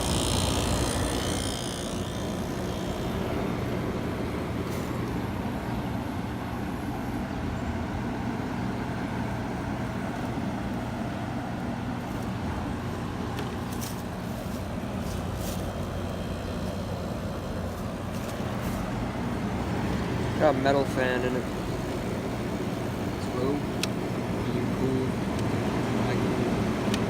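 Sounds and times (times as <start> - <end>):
air conditioner compressor humming: 0.0 - 27.0
fan air rushing: 0.0 - 27.0.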